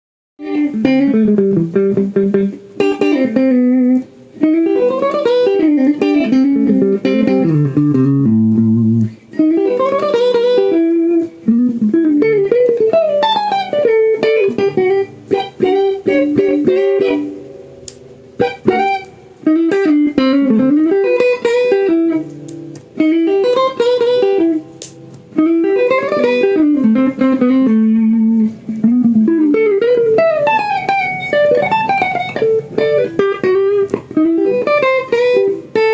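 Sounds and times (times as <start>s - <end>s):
plucked guitar melodic runs: 0.4s - 35.9s.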